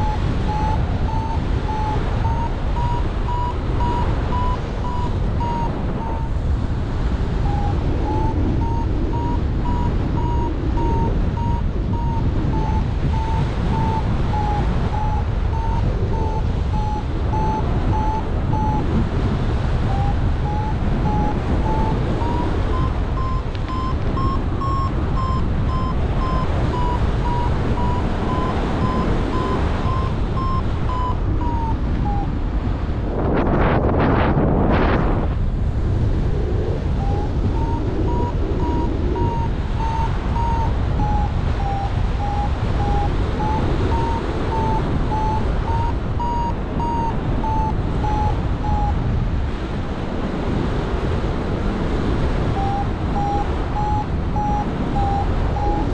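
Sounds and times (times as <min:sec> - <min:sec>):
variometer short beeps: 0:00.0 - 0:06.5, 0:07.1 - 0:32.4, 0:37.0 - 0:49.2, 0:52.0 - 0:55.9
wind on microphone: 0:00.0 - 0:55.9.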